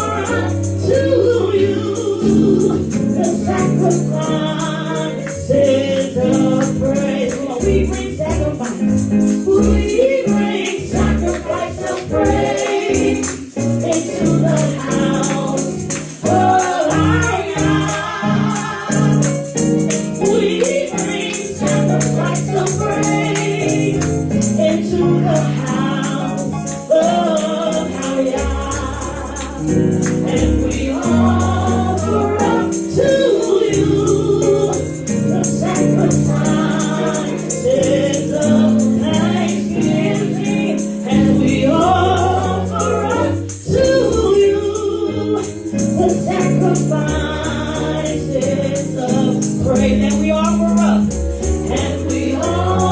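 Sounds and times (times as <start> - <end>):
choir and congregation singing: 0.0 - 52.9
tambourine or shaker beat: 0.0 - 52.9.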